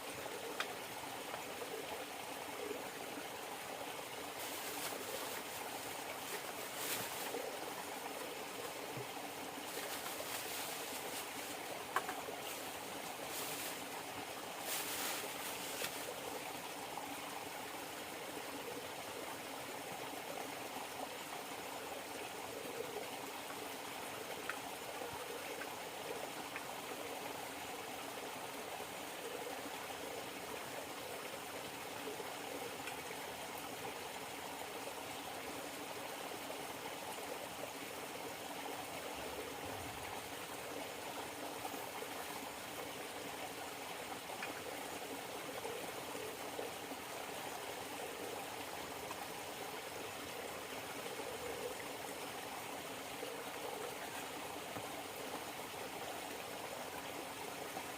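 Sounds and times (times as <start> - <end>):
river water trickling: 0.0 - 57.9.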